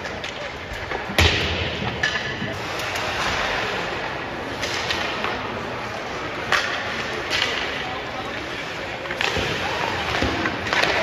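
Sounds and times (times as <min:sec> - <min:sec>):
hockey sticks and pucks clicking: 0:00.0 - 0:11.0.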